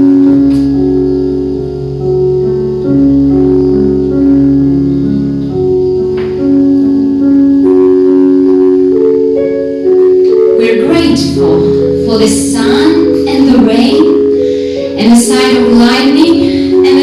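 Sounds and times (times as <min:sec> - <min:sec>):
solo piano sustained notes: 0:00.0 - 0:17.0.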